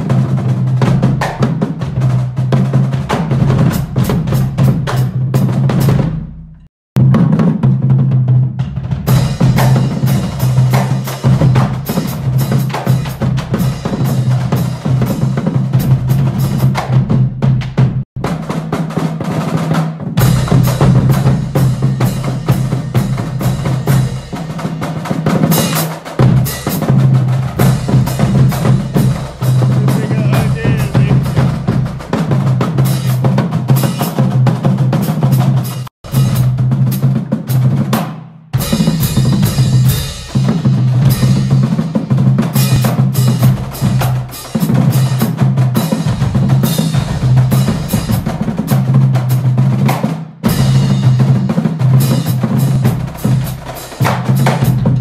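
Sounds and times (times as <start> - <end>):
marching drumline playing: 0.0 - 55.0.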